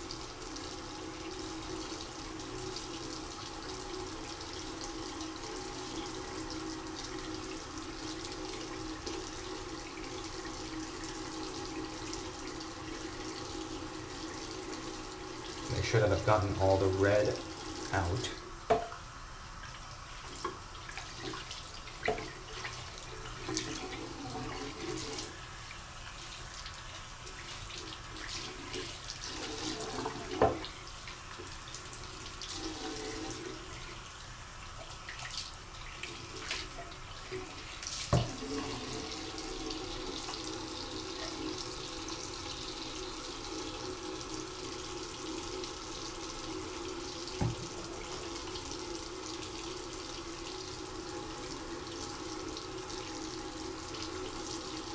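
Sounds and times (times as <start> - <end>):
tap water running into sink: 0.0 - 54.9.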